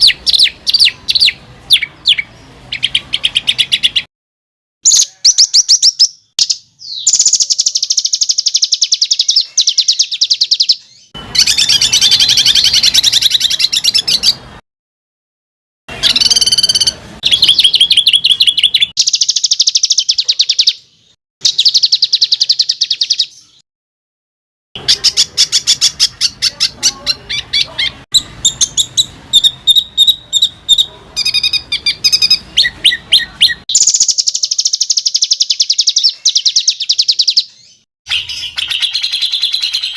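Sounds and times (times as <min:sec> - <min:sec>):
songbird singing harsh trills: 0:00.0 - 0:04.1, 0:04.8 - 0:14.5, 0:15.9 - 0:23.6, 0:24.8 - 0:39.9.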